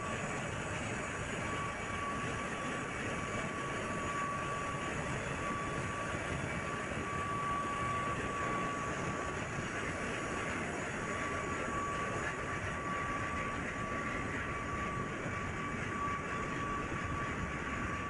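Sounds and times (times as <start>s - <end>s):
engine room drone: 0.0s - 18.0s
thin constant high whine: 0.0s - 18.0s.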